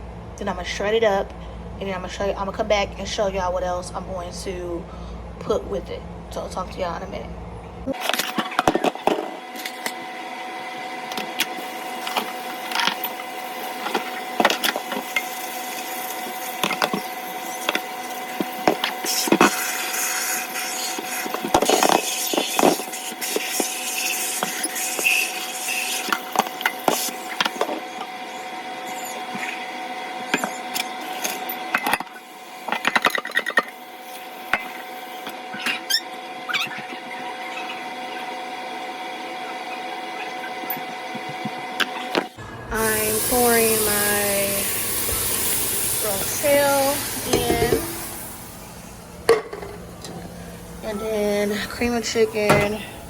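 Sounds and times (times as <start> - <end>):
steady hum: 0.0 - 8.2, 8.9 - 53.0.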